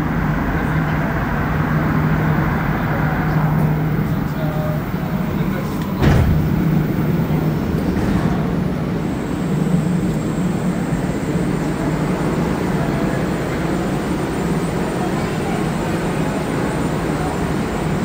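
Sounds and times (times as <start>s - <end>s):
train equipment humming: 0.0s - 18.0s.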